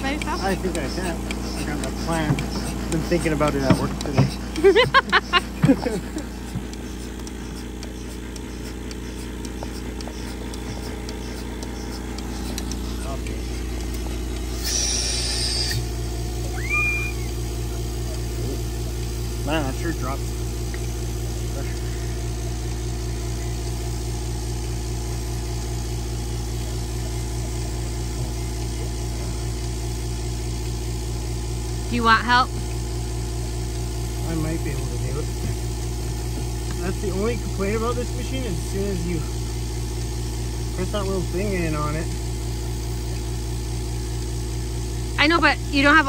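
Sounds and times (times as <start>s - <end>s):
vacuum pump humming: 0.0s - 46.0s.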